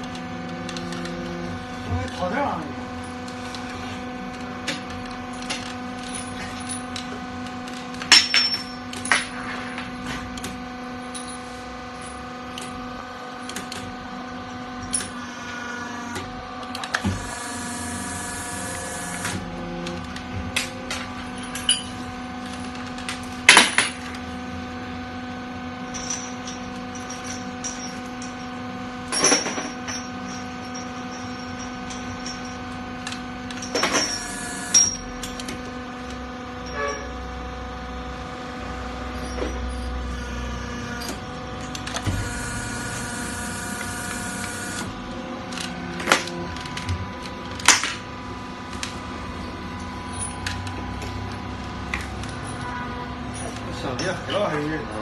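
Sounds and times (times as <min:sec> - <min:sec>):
electric motor and pump hum: 0:00.0 - 0:55.0.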